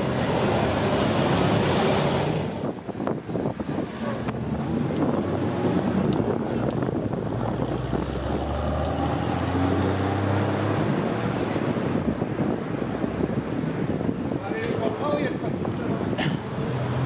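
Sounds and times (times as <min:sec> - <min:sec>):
car engines running: 0:00.0 - 0:17.0
road noise: 0:00.0 - 0:17.0
wind on microphone: 0:01.0 - 0:17.0.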